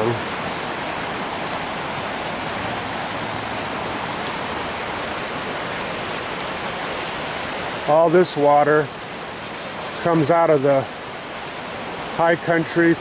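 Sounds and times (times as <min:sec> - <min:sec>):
creek rushing: 0:00.0 - 0:13.0.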